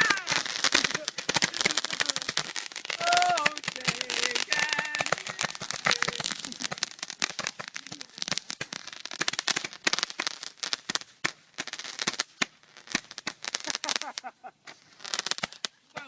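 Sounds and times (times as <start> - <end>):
firework crackling: 0.0 - 16.0.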